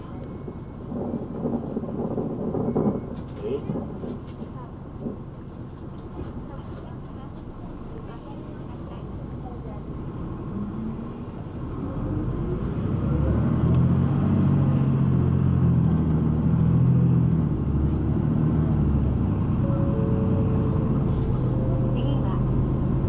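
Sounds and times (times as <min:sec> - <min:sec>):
bus engine pulling away: 0:00.0 - 0:23.0.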